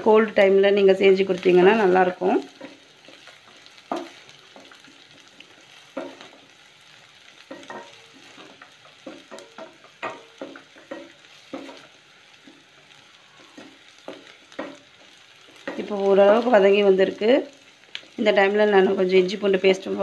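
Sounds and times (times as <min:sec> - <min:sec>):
shallots sizzling in oil: 0:00.0 - 0:20.0.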